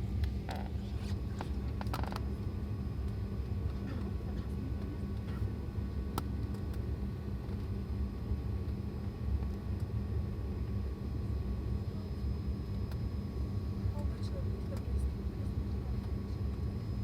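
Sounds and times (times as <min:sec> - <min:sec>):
airliner cabin rumble and hum: 0:00.0 - 0:17.0.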